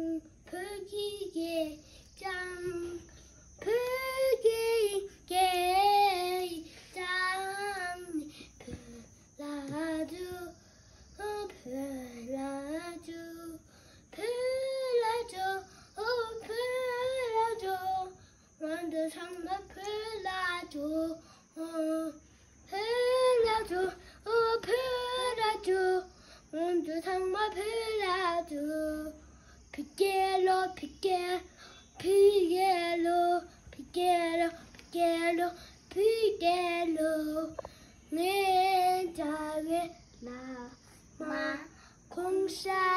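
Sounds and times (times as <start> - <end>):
young child singing: 0.0 - 42.9.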